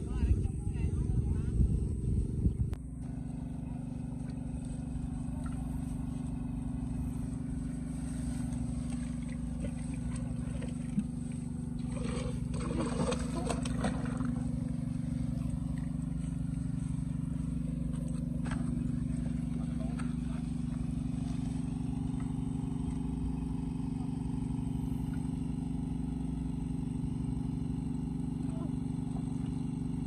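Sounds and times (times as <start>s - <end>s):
motor engine humming: 0.0s - 30.0s.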